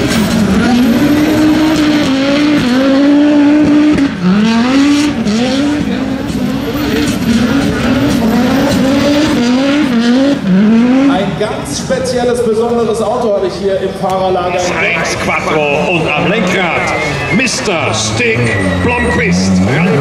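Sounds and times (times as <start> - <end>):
car engine revving hard: 0.0 - 11.8, 14.7 - 20.0.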